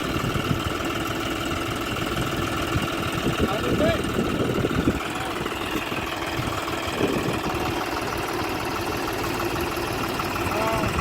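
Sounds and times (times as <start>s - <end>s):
tractor diesel engine knocking: 0.0s - 11.0s.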